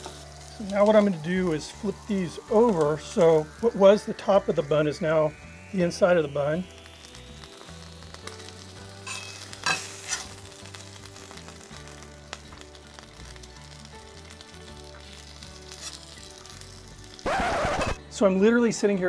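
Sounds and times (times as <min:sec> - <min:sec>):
patties sizzling on griddle: 0:00.0 - 0:18.8.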